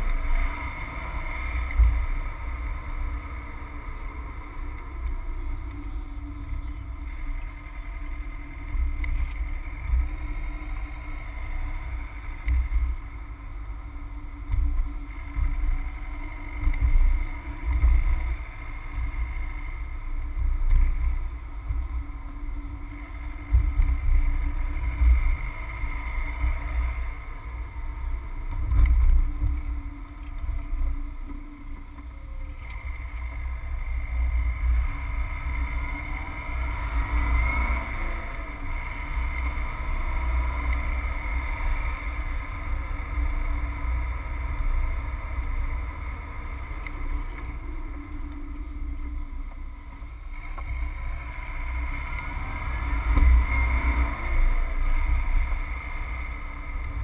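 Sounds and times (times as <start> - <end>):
car engine rumble: 0.0 - 57.0
tyres on the road: 0.0 - 57.0.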